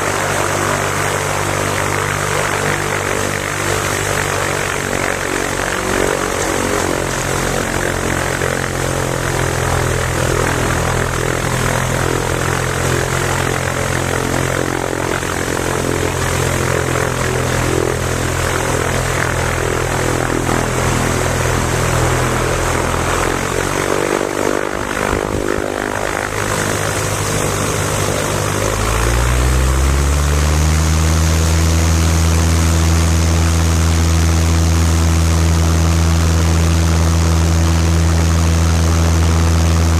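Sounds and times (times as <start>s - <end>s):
light plane engine droning: 0.0s - 39.9s.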